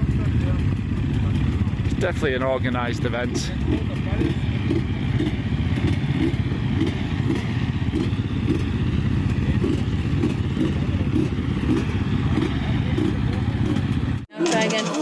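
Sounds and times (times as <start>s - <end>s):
motorcycle engines idling: 0.0s - 14.3s.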